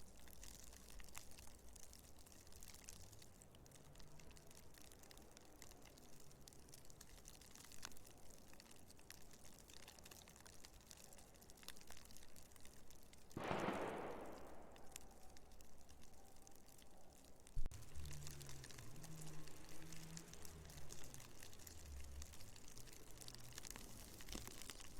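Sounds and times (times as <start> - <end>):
light ticks: 0.0 - 24.9.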